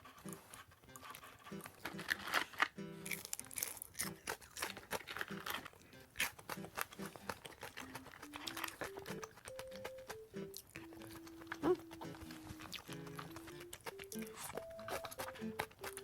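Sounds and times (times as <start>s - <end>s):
soft background music: 0.0s - 16.0s
fried chicken crunching: 0.2s - 16.0s.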